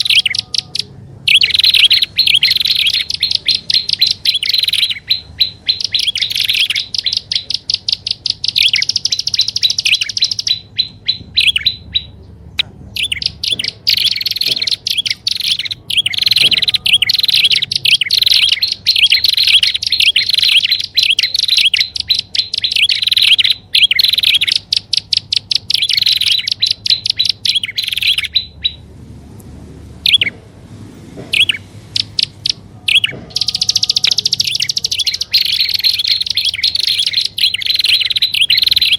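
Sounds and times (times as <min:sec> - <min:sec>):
birds chirping sharply: 0:00.0 - 0:38.9.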